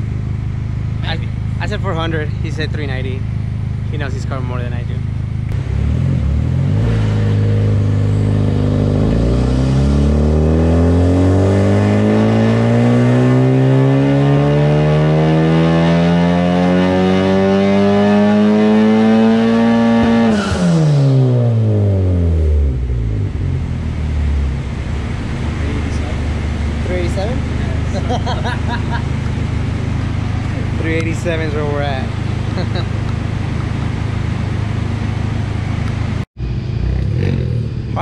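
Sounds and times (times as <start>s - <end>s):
car engine revving at full throttle: 0.0s - 38.0s.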